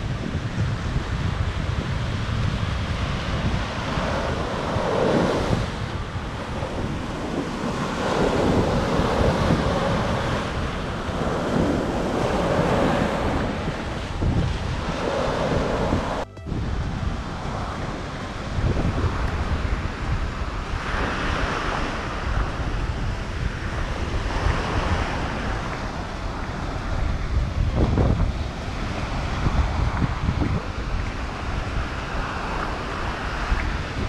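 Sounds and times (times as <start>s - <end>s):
waves breaking on beach: 0.0s - 34.0s
wind rumbling on microphone: 0.0s - 34.0s.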